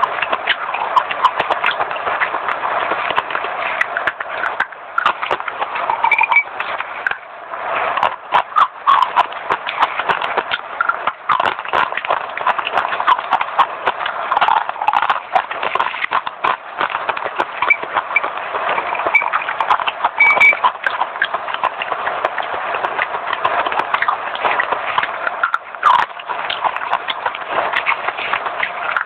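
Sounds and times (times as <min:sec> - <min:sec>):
crunchy chewing: 0:00.0 - 0:29.0.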